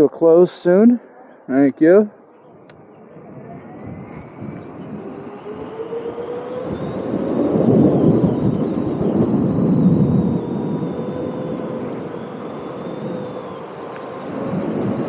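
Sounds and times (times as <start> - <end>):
road rumble: 0.0 - 15.0
wind: 0.0 - 15.0
electric motor whine: 2.3 - 15.0.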